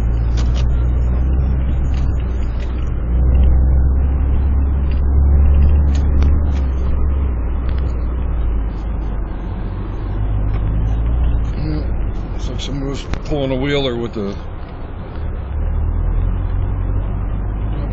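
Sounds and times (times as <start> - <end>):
vehicle engine rumble from cab: 0.0 - 17.9.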